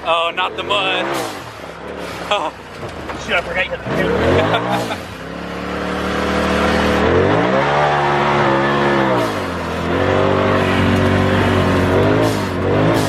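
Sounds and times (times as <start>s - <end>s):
turbocharged engine revving: 0.0s - 13.0s.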